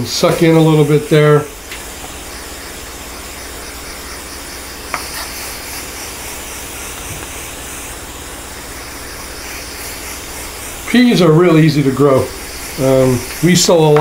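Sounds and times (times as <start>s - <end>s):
water spray nozzle hissing: 0.0s - 14.0s.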